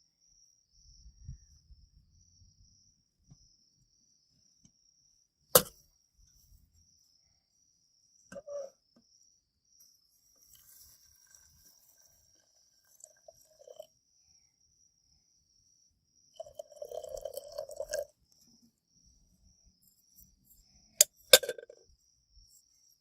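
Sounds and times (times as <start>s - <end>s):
insects chirring: 0.1s - 23.0s.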